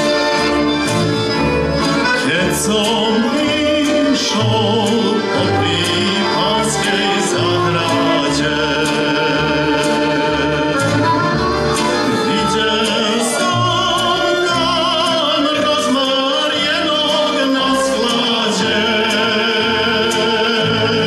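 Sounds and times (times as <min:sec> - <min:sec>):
accordions: 0:00.0 - 0:21.0
violin: 0:00.0 - 0:21.0
man singing with vibrato: 0:01.8 - 0:21.0.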